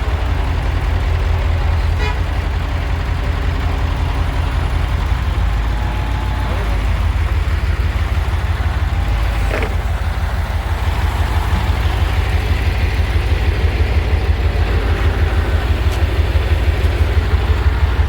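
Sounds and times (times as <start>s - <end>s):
diesel engine throbbing: 0.0s - 18.0s.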